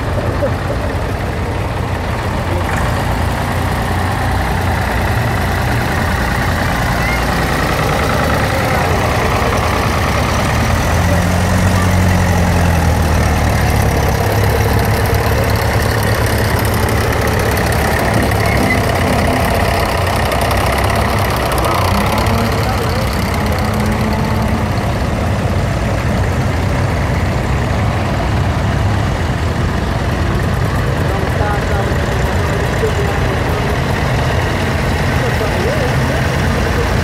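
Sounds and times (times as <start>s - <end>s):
tractor engines rumbling: 0.0s - 37.0s.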